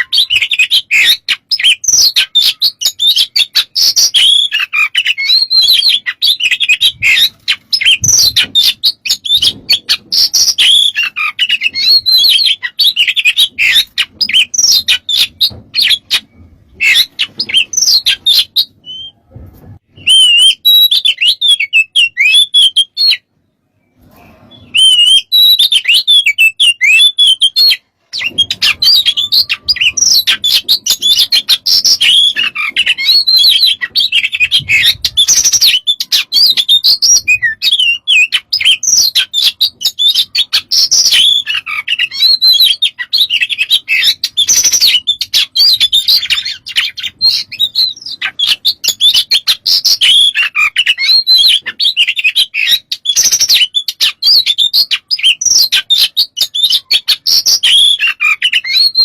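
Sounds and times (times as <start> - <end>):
bird singing whistles and trills: 0.0 - 19.3, 19.9 - 59.0.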